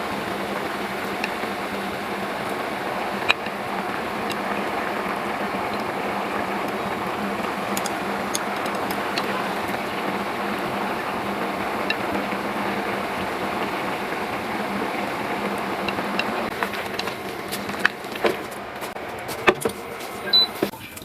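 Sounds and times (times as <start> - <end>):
water boiling in a pot: 0.0 - 21.0.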